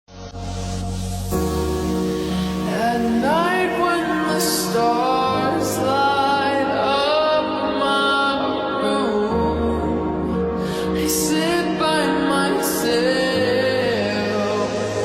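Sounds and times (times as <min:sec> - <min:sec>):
person singing slow melody: 0:00.4 - 0:15.0.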